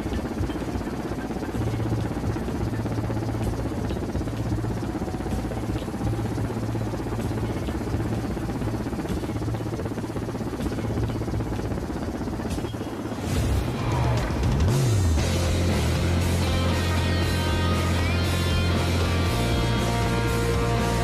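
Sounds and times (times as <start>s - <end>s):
helicopter turbine and rotor: 0.0s - 21.0s.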